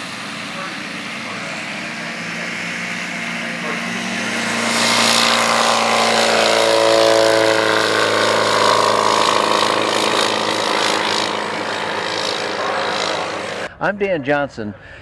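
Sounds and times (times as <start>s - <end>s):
light aircraft engine at full power: 0.0s - 13.8s.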